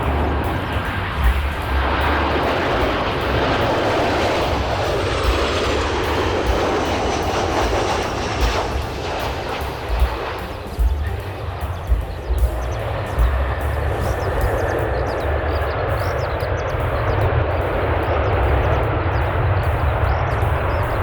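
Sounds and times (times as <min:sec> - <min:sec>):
jet engines running: 0:00.0 - 0:21.0
wind buffeting microphone: 0:00.0 - 0:21.0.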